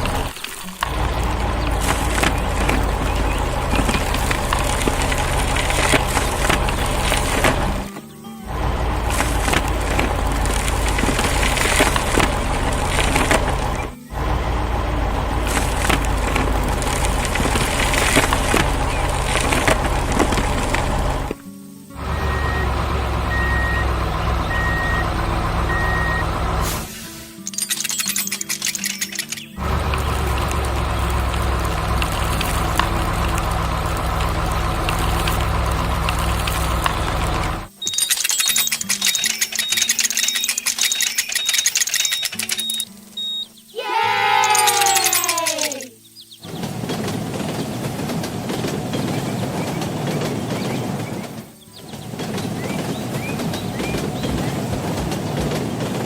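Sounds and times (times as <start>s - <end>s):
heavy machine engine running: 0.0s - 28.0s, 29.5s - 42.9s, 46.4s - 56.0s.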